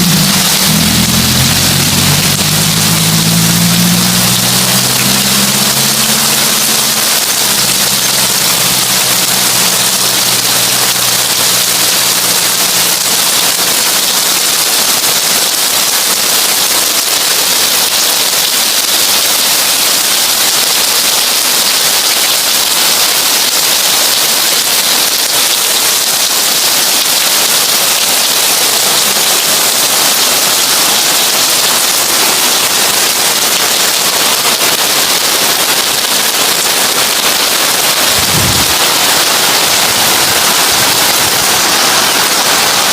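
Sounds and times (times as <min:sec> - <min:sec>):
heavy rain on a tin roof: 0:00.0 - 0:42.9.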